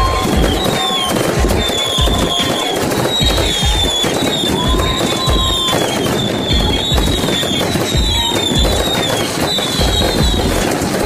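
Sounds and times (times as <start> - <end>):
fireworks bangs: 0.0 - 11.0
fireworks whistling: 0.0 - 11.0.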